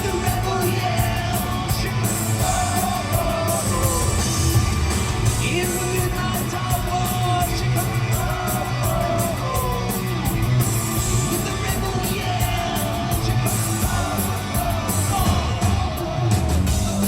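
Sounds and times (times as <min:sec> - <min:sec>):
hard rock band playing: 0:00.0 - 0:17.0
wavering lead guitar line: 0:00.0 - 0:17.0.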